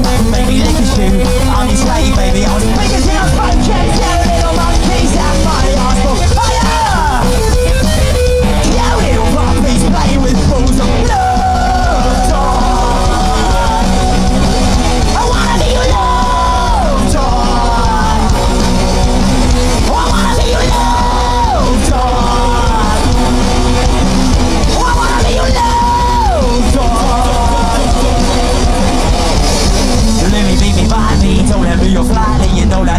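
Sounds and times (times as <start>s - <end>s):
drums: 0.0s - 32.9s
electric guitars: 0.0s - 32.9s
person yelling singing: 0.0s - 32.9s.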